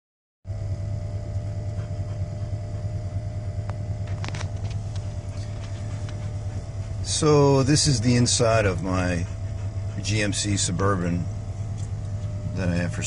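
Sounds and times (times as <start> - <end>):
car engine idling: 0.6 - 13.0.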